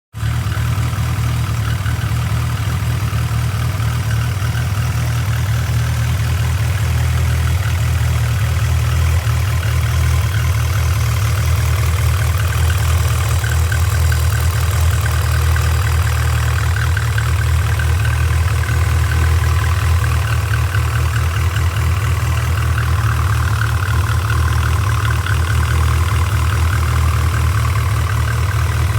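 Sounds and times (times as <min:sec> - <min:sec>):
car engine idling: 0:00.2 - 0:28.9.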